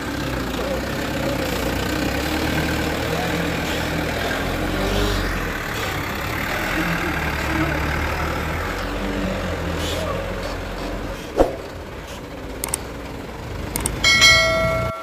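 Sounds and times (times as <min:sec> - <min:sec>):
diesel truck engine low hum: 0:00.0 - 0:15.0.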